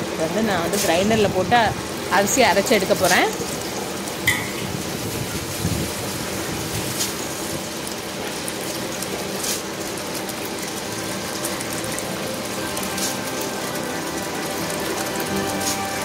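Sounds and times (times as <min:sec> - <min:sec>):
rice and water churning: 0:00.0 - 0:16.0.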